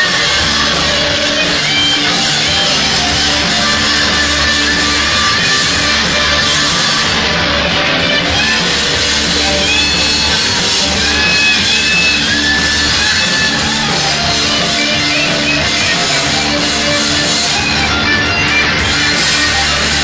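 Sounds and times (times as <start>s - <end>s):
electric guitars: 0.0s - 20.0s
live rock band playing: 0.0s - 20.0s.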